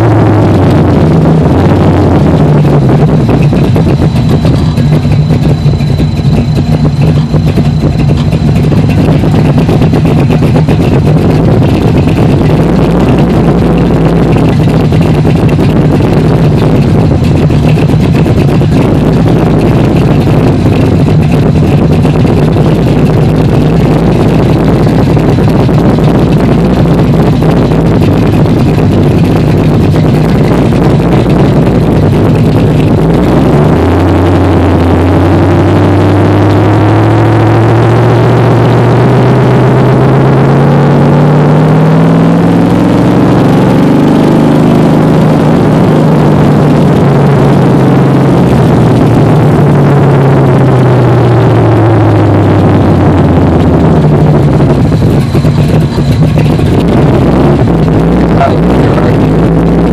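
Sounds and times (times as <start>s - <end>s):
car engine rumbling and revving: 0.0s - 59.9s.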